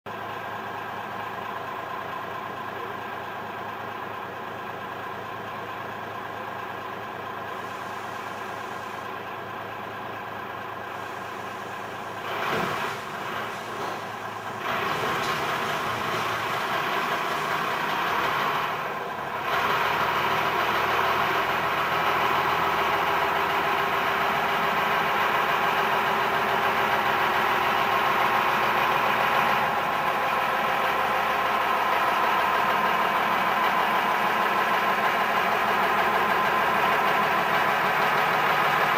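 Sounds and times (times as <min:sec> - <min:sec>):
diesel locomotive engine running: 0:00.1 - 0:38.9.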